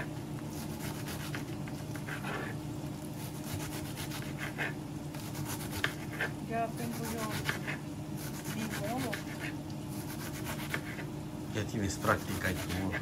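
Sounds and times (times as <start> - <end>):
knife cutting cabbage on board: 0.0 - 11.1, 12.0 - 13.0.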